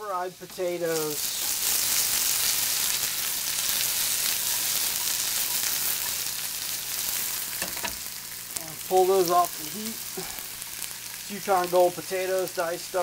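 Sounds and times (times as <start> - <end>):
potatoes sizzling in skillet: 0.0 - 13.0.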